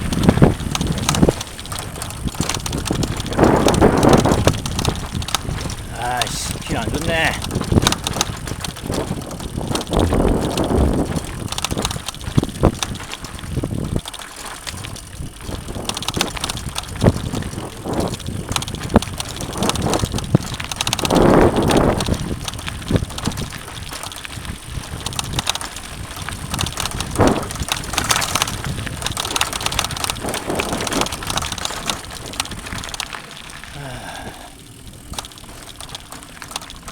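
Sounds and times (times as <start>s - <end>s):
bike rattling and knocking: 0.0s - 36.9s
bike tyres rolling on dirt: 0.0s - 36.9s.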